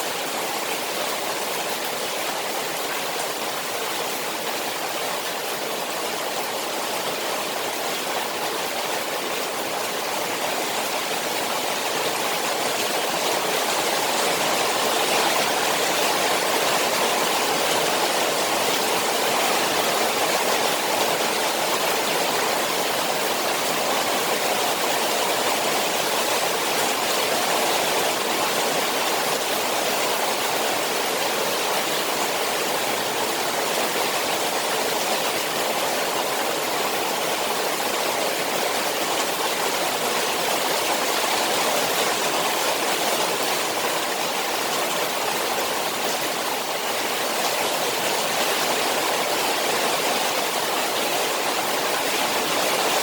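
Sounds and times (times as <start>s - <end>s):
rain falling on pond: 0.0s - 53.0s.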